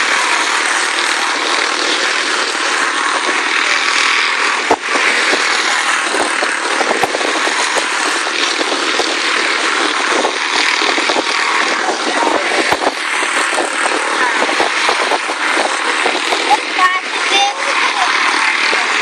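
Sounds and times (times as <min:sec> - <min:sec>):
small race car engines buzzing: 0:00.0 - 0:19.0.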